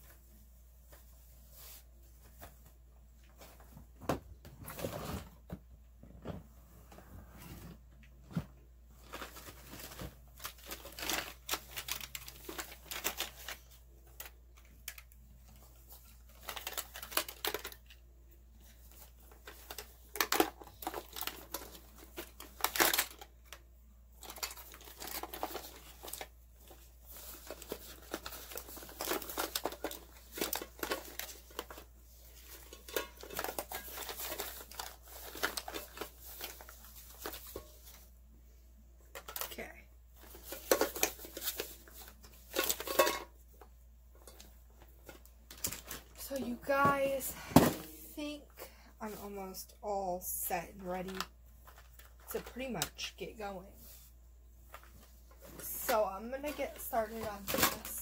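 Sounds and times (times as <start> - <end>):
rustling and crinkling: 0.0 - 48.4, 49.0 - 58.0.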